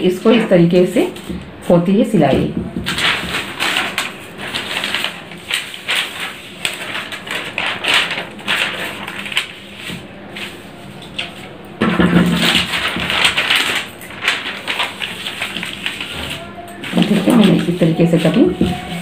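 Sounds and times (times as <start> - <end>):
newspaper rustling: 0.2 - 1.7, 2.3 - 19.0.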